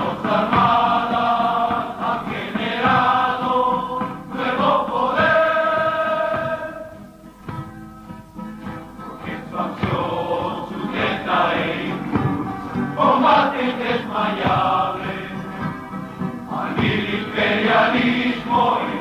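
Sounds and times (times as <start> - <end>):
choir singing long held notes: 0.0 - 7.5, 9.1 - 19.0.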